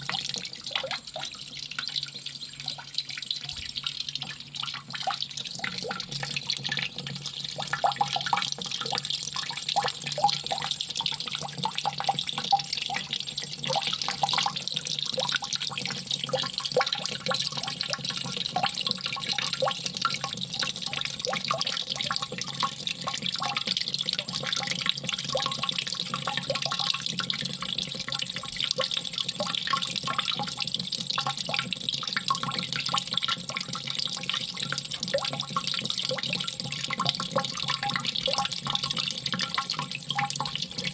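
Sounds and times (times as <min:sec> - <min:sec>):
small drips and splashes: 0:00.0 - 0:40.9
water running and trickling: 0:00.0 - 0:40.9.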